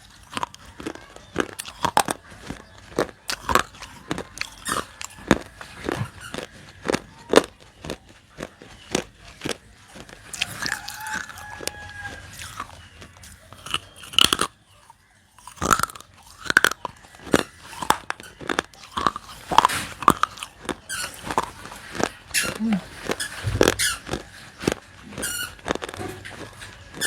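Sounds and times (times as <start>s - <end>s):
crunchy biting and chewing: 0.0s - 27.0s.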